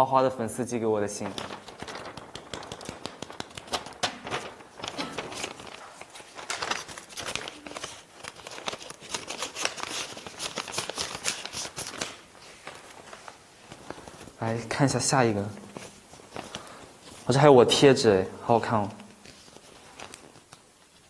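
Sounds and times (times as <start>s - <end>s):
paper rustling and crinkling: 1.0s - 18.0s, 18.6s - 21.0s.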